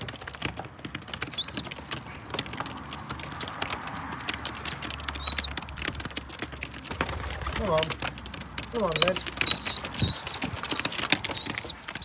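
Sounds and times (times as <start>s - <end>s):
pigeons pecking grain: 0.0s - 12.0s.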